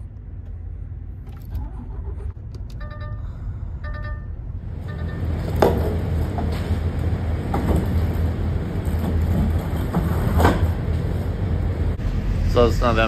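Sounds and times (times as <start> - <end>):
truck diesel engine running: 1.6 - 13.0.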